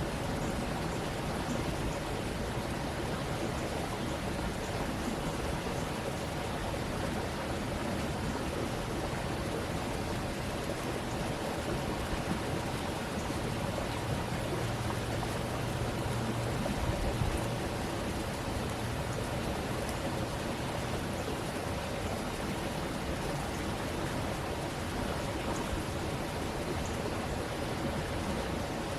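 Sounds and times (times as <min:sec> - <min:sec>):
stream water running: 0:00.0 - 0:28.9.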